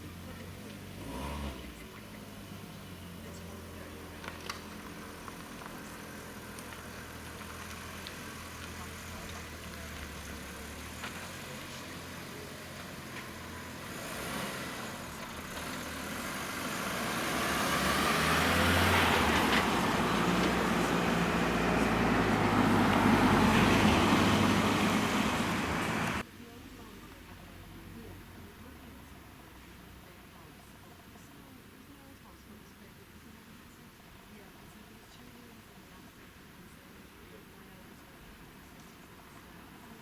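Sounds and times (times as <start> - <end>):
vehicle engine hum: 0.0 - 40.0.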